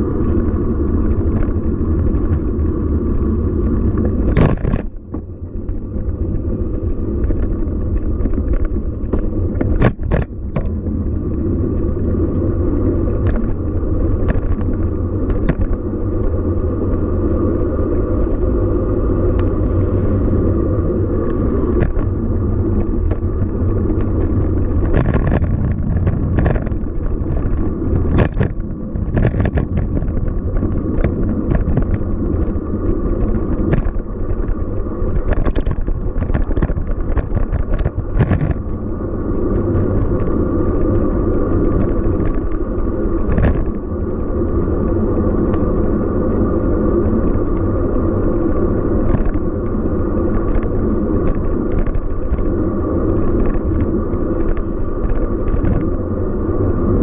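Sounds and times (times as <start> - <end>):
low street rumble: 0.0 - 57.0.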